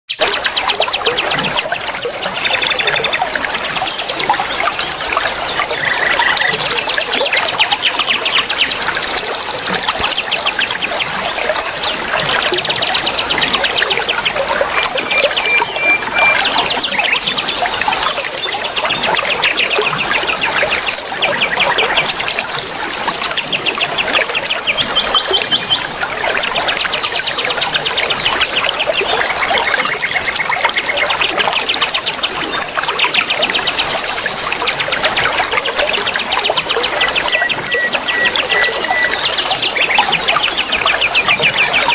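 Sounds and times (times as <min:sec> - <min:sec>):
chorus of birds chirping: 0:00.1 - 0:41.9
water trickling: 0:00.2 - 0:41.9.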